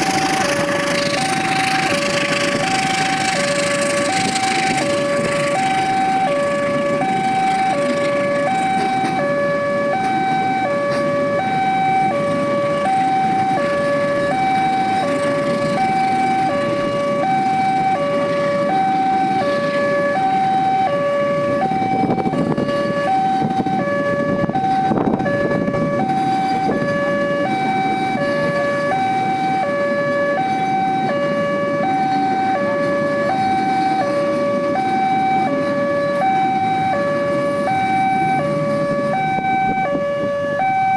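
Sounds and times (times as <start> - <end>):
two-tone crossing alarm: 0.0 - 40.9.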